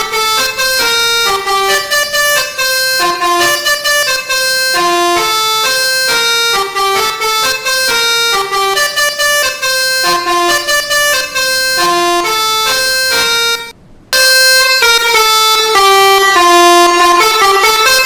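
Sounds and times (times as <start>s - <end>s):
bus horn playing a melody: 0.0s - 18.0s.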